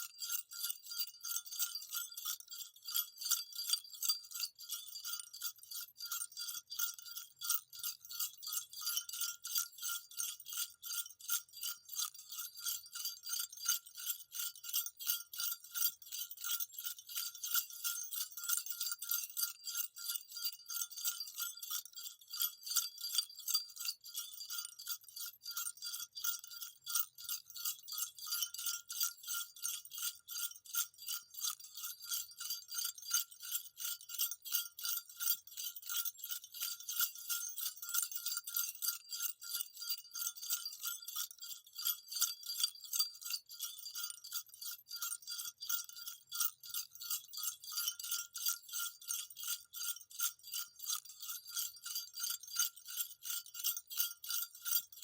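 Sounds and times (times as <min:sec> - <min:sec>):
jingle bells shaken: 0:00.0 - 0:55.0.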